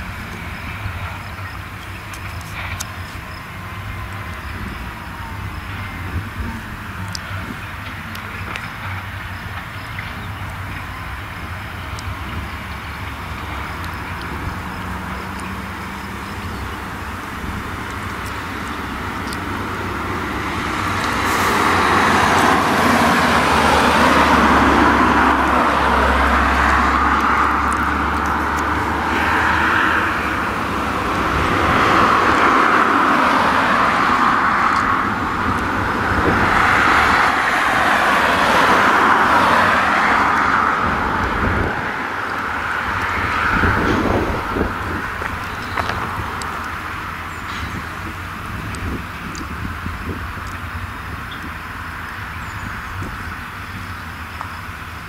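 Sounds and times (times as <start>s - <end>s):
hay rake rotors: 0.0s - 55.0s
tractor engine running: 0.0s - 55.0s.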